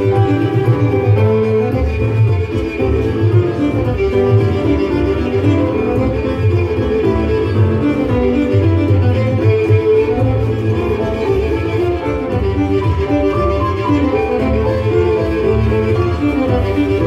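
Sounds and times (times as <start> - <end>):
fiddle dance music: 0.0 - 17.0.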